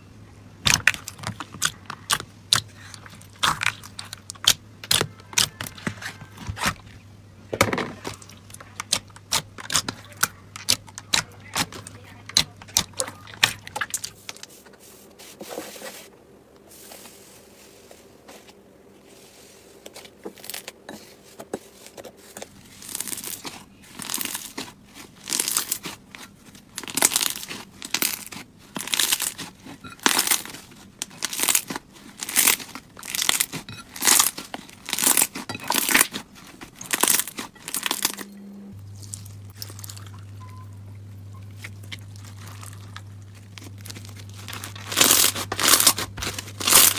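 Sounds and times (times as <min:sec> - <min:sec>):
slime squishing by hand: 0:00.6 - 0:16.1, 0:16.7 - 0:38.2, 0:38.8 - 0:46.9.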